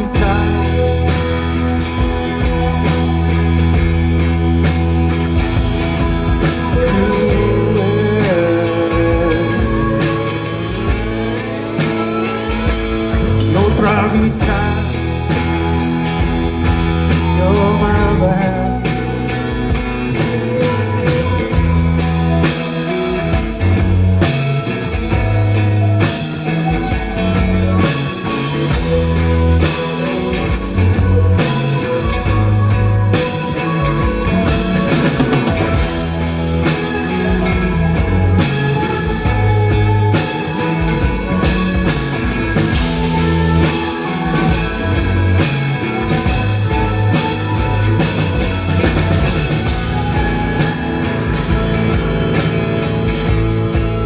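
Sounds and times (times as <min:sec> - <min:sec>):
bass guitar: 0:00.0 - 0:54.0
drum kit beat: 0:00.0 - 0:54.0
electric guitar: 0:00.0 - 0:54.0.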